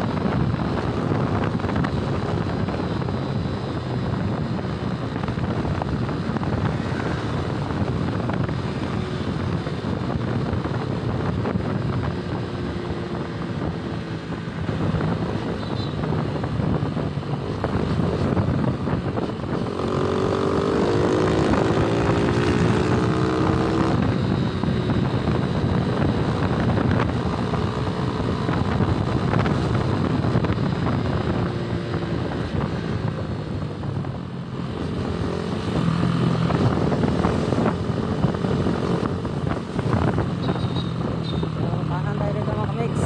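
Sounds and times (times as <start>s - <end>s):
motorcycle engine running: 0.0s - 43.0s
wind rushing over microphone: 0.0s - 43.0s.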